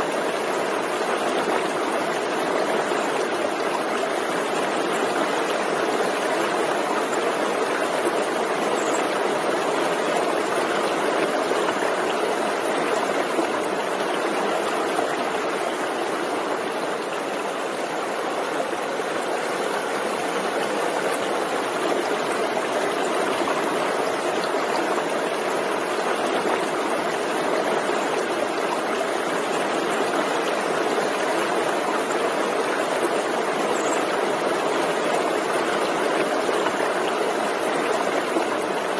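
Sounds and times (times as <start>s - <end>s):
forest stream running: 0.0s - 38.9s.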